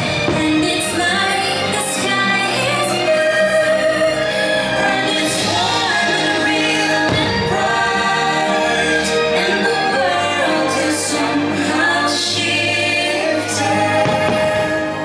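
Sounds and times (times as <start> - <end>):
show music with choir singing: 0.0 - 15.0.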